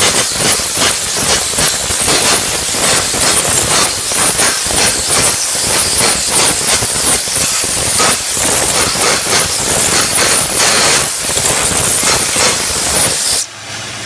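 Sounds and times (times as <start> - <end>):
welding arc hissing and crackling: 0.0 - 13.5.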